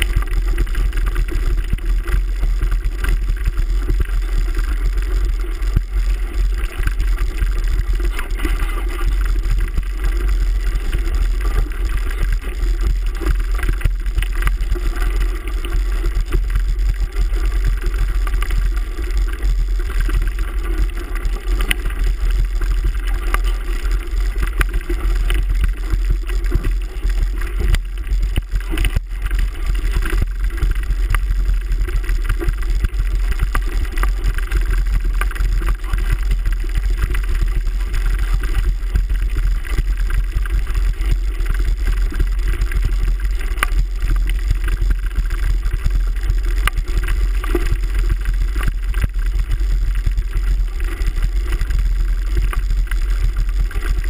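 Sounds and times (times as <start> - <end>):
low rumble of vibration: 0.0 - 54.0.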